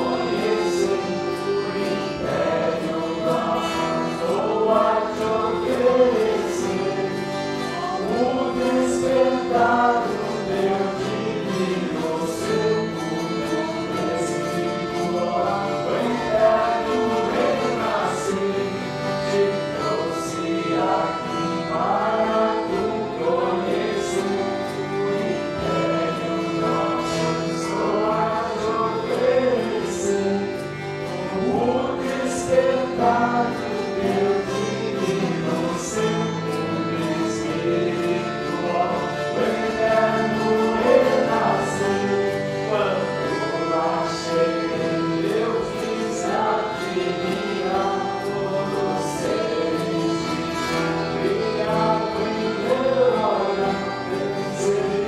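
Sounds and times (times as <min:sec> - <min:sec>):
group singing a hymn: 0:00.0 - 0:55.0
guitars: 0:00.0 - 0:55.0.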